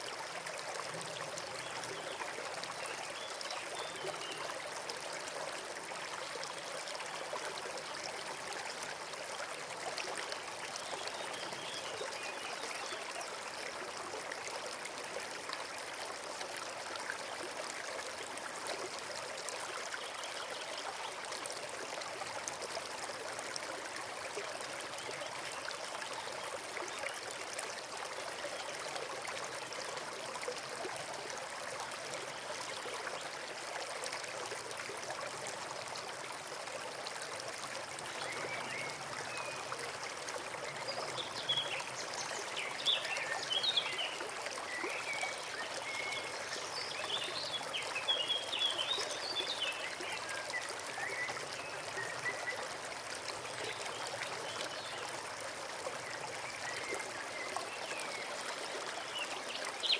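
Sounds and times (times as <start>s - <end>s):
brook flowing and trickling: 0.0s - 59.9s.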